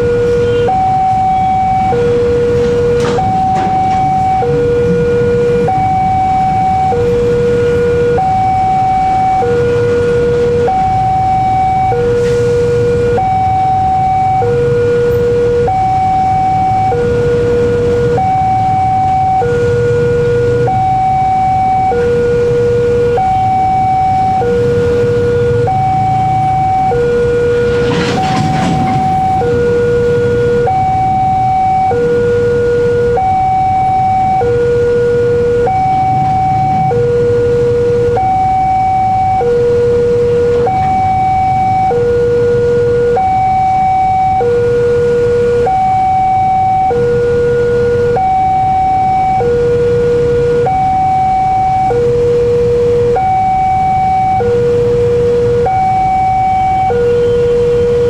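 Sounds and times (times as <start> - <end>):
level crossing two-tone alarm: 0.0 - 58.0.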